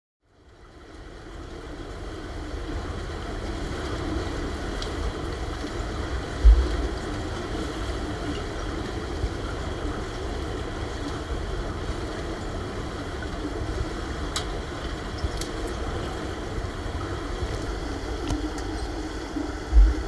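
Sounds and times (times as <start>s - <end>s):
underwater pool rumble: 1.8s - 20.0s.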